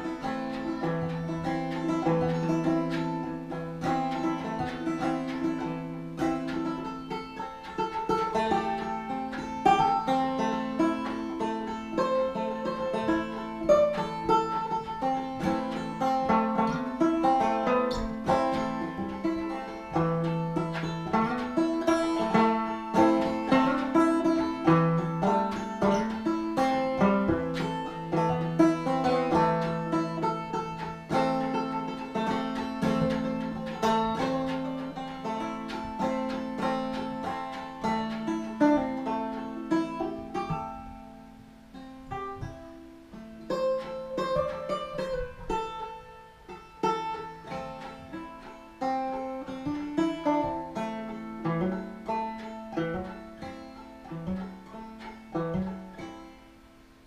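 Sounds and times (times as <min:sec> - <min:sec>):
banjo fingerpicking: 0:00.0 - 0:57.0.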